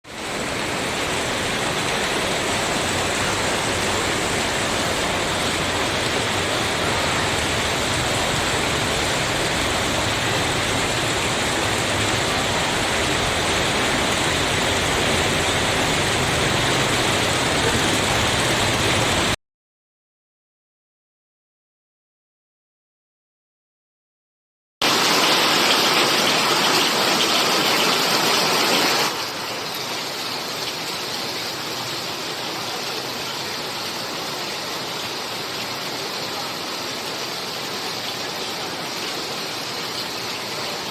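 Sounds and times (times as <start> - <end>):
heavy rain pouring: 0.0 - 19.4, 24.8 - 40.9.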